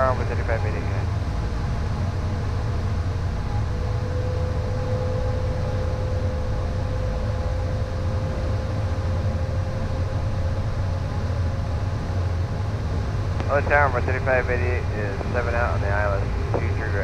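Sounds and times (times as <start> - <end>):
jet cockpit airflow and engine rumble: 0.0 - 17.0
steady high hum: 0.0 - 17.0.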